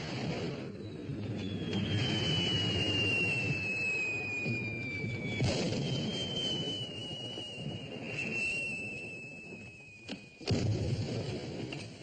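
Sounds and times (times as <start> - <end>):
rocket hissing and rumbling: 0.0 - 12.0
high whistle sliding down: 0.6 - 10.7.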